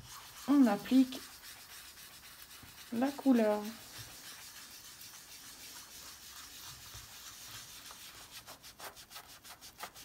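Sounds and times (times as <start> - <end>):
brush rubbing on paper: 0.0 - 10.0.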